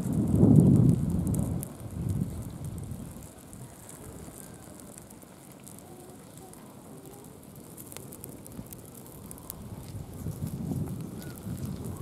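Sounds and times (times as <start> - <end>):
small fire crackling and popping: 0.0 - 12.0.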